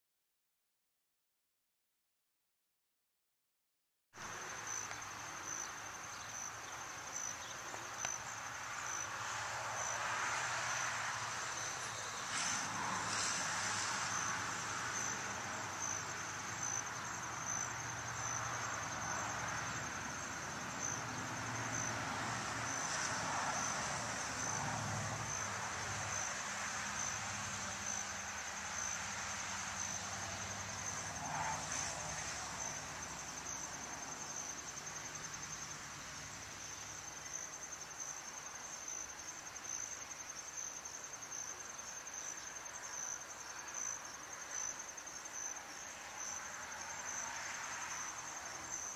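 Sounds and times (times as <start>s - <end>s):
crickets trilling: 4.2s - 48.9s.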